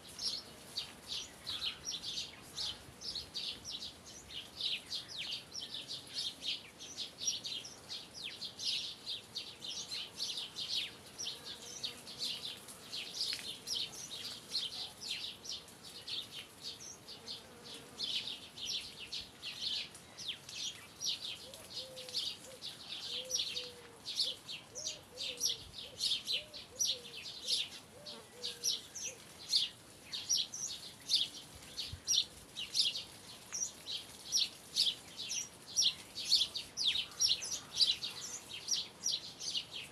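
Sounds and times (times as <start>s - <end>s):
birds chirping: 0.1s - 39.9s.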